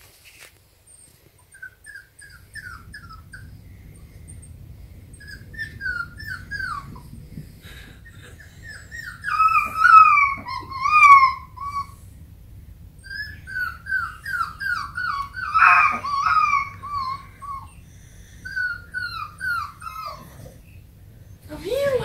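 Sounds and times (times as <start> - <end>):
puppy whining: 0.9 - 3.6, 5.1 - 12.0, 13.0 - 22.0.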